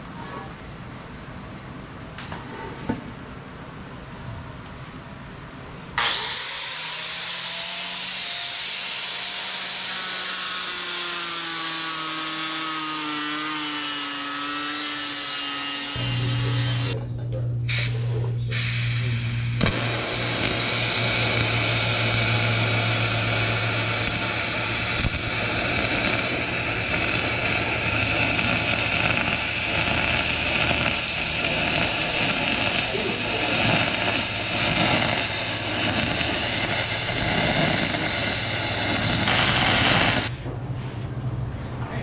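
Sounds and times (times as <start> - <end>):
welding arc hiss and buzz: 6.0 - 17.0, 17.6 - 40.3.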